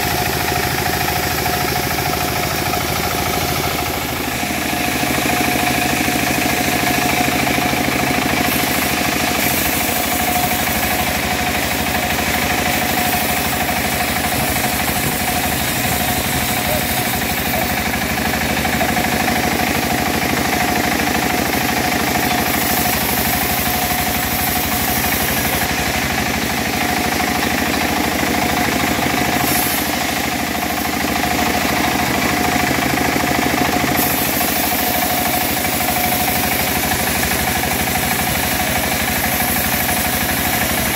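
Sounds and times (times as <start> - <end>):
bandsaw mill sawing log: 0.0 - 40.9.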